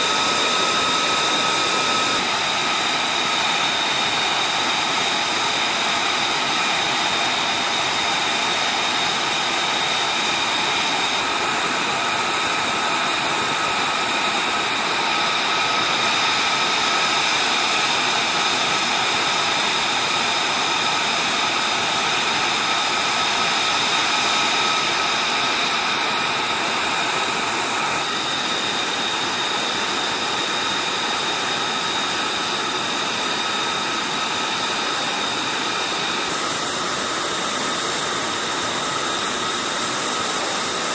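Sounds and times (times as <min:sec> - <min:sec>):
jet engine idling: 0:00.0 - 0:40.9.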